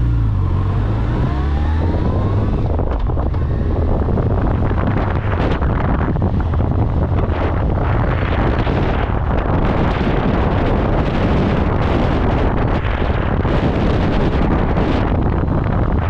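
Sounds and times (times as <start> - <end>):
deep rumble: 0.0 - 16.0
wind buffeting microphone: 0.0 - 16.0.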